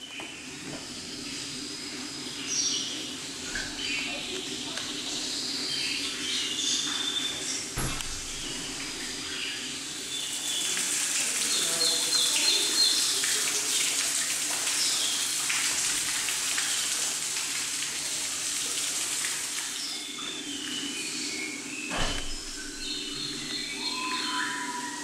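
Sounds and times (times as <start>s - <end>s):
small birds chirping: 0.0s - 15.4s, 19.6s - 25.0s
running water: 1.0s - 25.0s.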